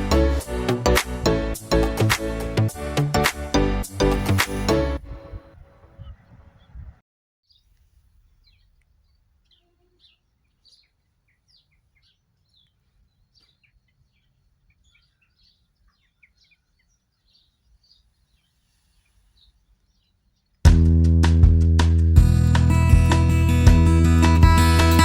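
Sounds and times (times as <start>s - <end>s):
songbirds chirping: 0.0s - 20.6s.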